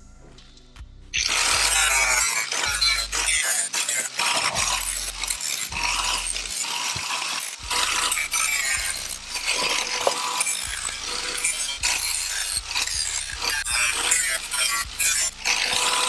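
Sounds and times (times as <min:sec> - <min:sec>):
jigsaw cutting through metal: 0:01.2 - 0:16.0.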